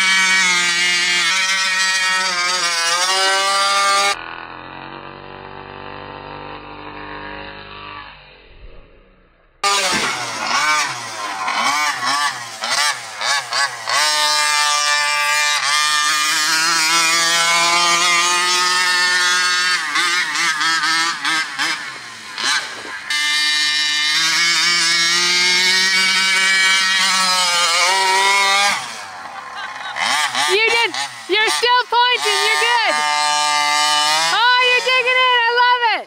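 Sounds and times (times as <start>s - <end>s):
two-stroke engine revving: 0.0s - 36.0s.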